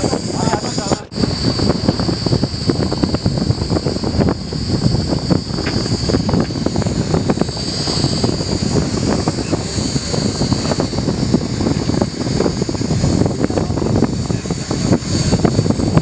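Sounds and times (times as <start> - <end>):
boat engine humming: 0.0 - 16.0
wind buffeting microphone: 0.0 - 16.0.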